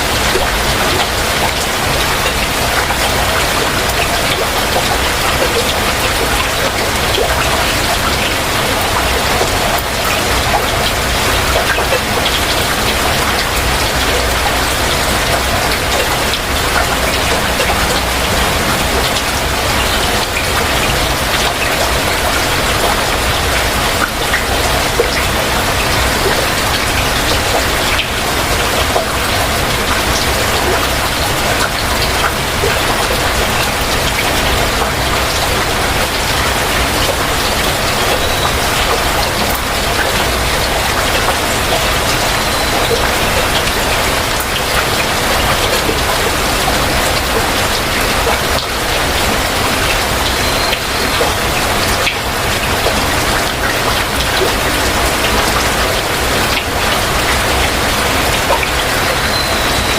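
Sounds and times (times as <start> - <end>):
heavy rain hissing: 0.0 - 59.9
raindrops pattering on hard surfaces: 0.0 - 59.9.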